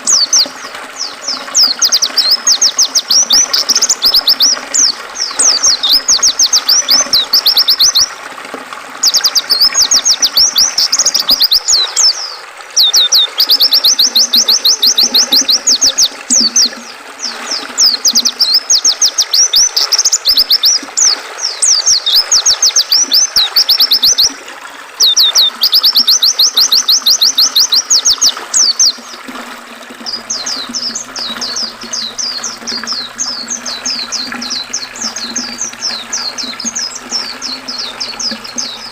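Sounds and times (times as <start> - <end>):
bird twittering: 0.0 - 8.2, 9.0 - 24.4, 25.0 - 29.2, 30.0 - 38.9.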